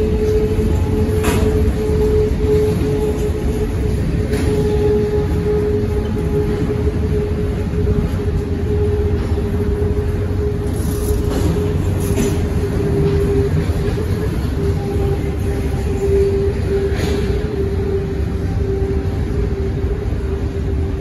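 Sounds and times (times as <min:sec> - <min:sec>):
high wheel squeal: 0:00.0 - 0:20.4.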